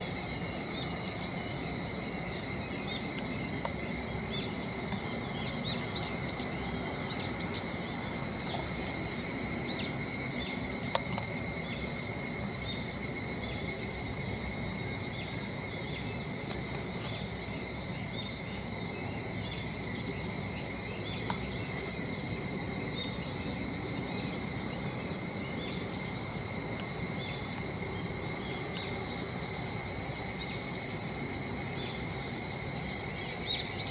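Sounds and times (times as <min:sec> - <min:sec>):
cicadas droning: 0:00.0 - 0:33.9.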